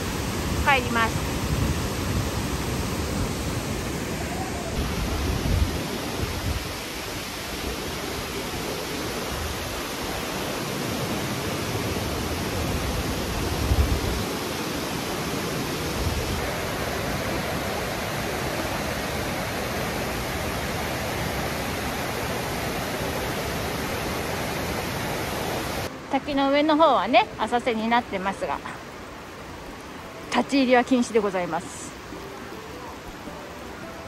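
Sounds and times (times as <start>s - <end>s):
waterfall rushing over rock: 0.0s - 34.0s.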